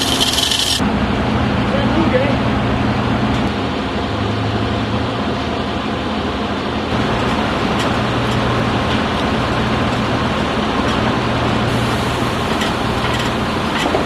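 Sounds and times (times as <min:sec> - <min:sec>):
crane engine running: 0:00.0 - 0:14.0.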